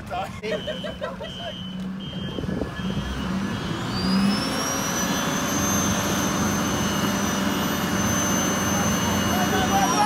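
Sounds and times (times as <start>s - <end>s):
high engine whine: 0.6s - 10.0s
bus engine revving hard: 1.8s - 10.0s.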